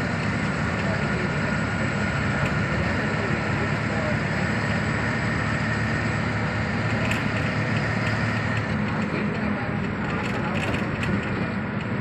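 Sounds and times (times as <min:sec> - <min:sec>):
bus body rattling: 0:00.0 - 0:12.0
diesel bus engine: 0:00.0 - 0:12.0
road and tyre noise: 0:00.0 - 0:12.0.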